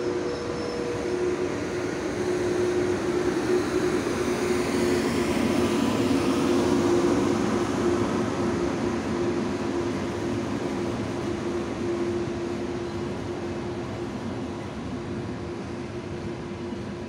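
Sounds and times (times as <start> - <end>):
train rolling past: 0.0 - 17.0.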